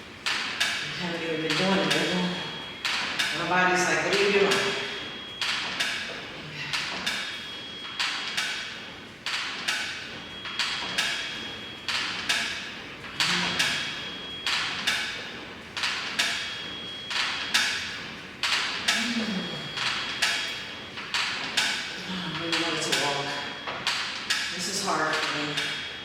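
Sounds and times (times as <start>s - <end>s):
exercise machine clacking: 0.2s - 25.9s.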